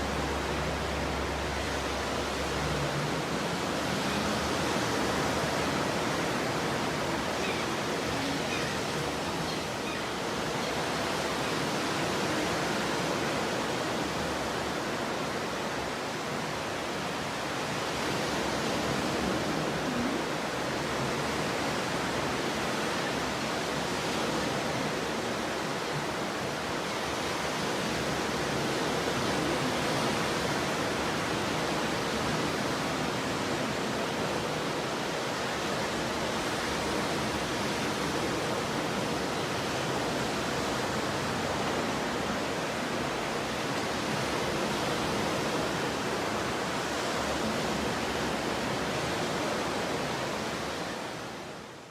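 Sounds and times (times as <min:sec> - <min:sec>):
waves breaking: 0:00.0 - 0:51.9.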